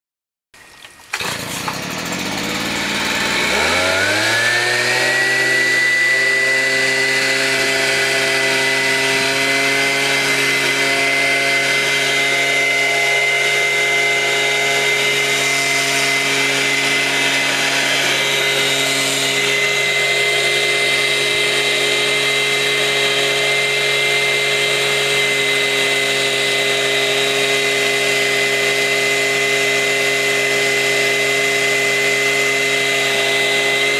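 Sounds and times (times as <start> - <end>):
leaf blower engine revving: 0.9 - 33.9.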